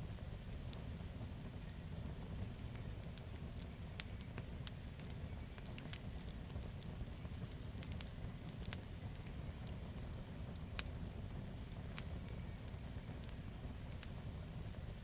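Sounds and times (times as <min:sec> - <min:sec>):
burning wood crackling and popping: 0:00.0 - 0:15.0
low fire rumble: 0:00.0 - 0:15.0.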